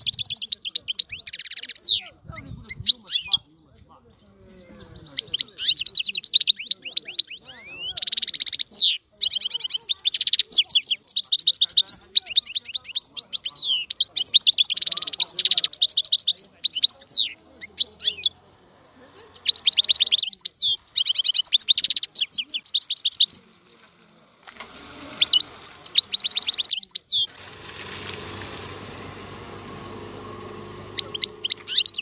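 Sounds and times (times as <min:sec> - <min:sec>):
goldfinch singing: 0:00.0 - 0:32.0.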